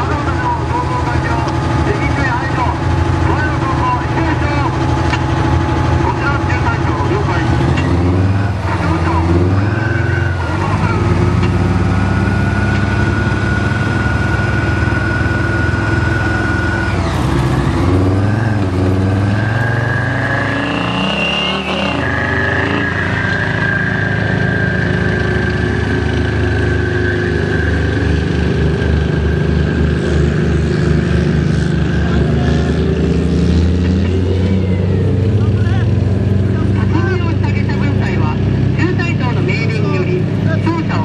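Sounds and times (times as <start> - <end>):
high whine: 0.0 - 38.2
armoured vehicle engines: 0.0 - 41.0.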